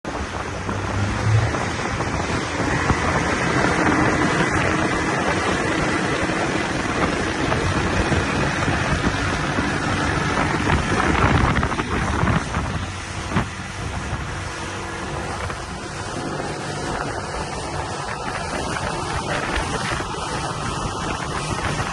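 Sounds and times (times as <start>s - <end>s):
wind buffeting microphone: 0.0s - 21.9s
outboard motor running: 0.1s - 21.9s.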